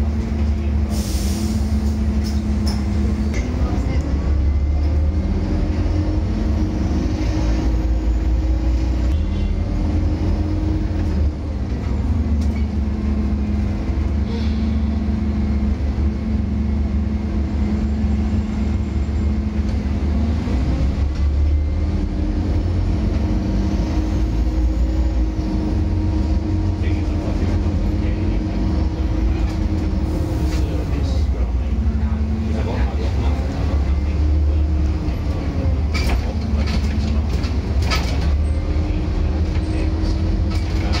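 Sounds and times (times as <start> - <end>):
bus diesel engine rumble: 0.0 - 41.0.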